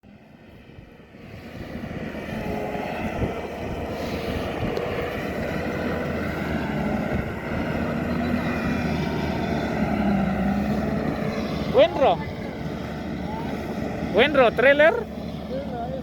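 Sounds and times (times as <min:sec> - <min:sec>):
road noise: 0:00.0 - 0:16.0
truck engine humming: 0:00.0 - 0:16.0.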